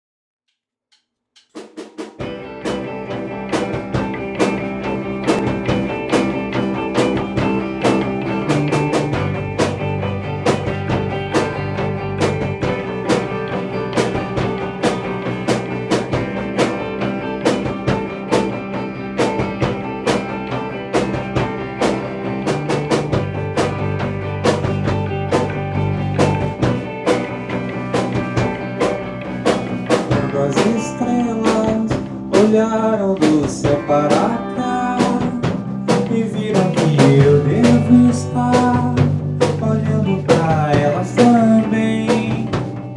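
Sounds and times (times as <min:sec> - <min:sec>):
drum kit steady beat: 0:01.5 - 0:42.9
bass guitar: 0:02.2 - 0:42.9
guitar: 0:02.2 - 0:42.9.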